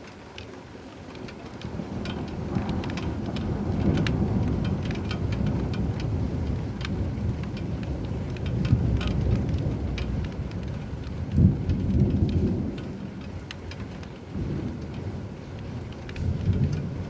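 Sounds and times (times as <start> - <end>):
steady rain: 0.0 - 17.0
drops ticking on a surface: 0.3 - 17.0
rumbling thunder: 1.6 - 13.2, 14.3 - 17.0.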